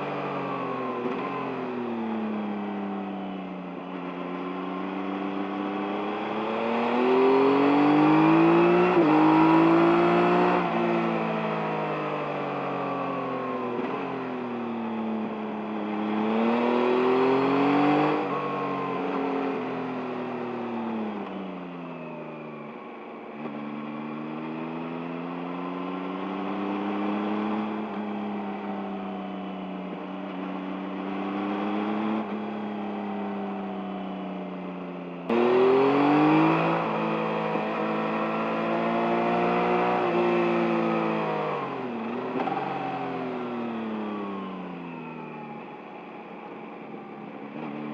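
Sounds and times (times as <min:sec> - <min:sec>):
motorcycle engine revving: 0:00.0 - 0:45.7.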